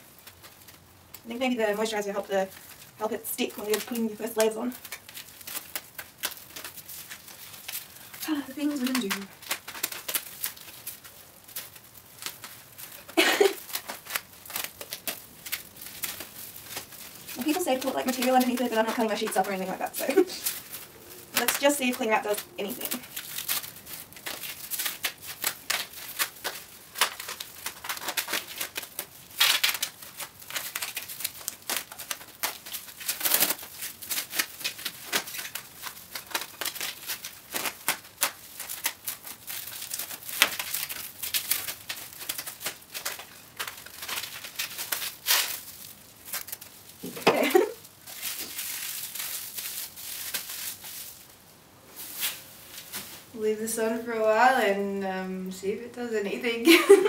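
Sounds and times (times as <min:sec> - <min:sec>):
plastic cling film crinkling: 0:00.0 - 0:57.0.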